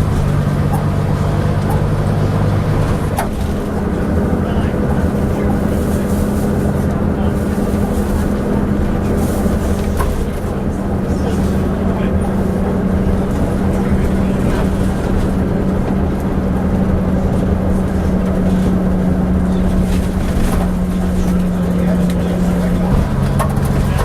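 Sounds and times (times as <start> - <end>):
bus diesel engine droning: 0.0 - 24.0.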